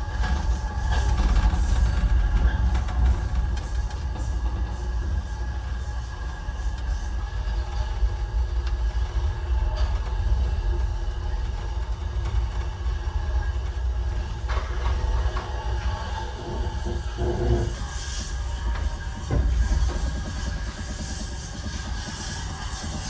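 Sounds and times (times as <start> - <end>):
train running gear rumble: 0.0 - 23.0.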